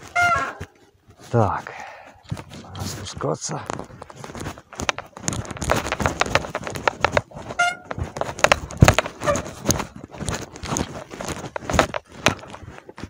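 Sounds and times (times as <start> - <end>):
bicycle rattling on bumpy path: 0.0 - 13.0.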